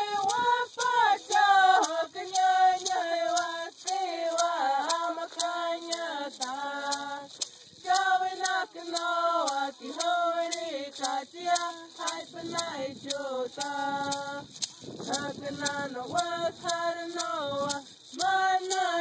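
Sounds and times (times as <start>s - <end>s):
sharp ticks keeping a beat: 0.0s - 19.0s.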